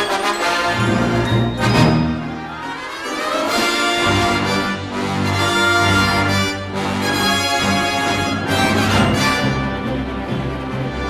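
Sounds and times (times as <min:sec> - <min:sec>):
orchestral film music: 0:00.0 - 0:11.0.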